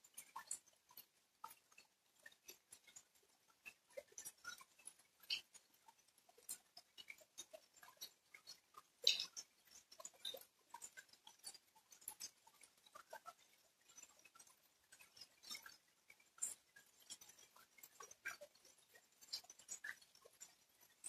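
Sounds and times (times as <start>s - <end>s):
raindrops dripping and tapping: 0.0s - 21.0s.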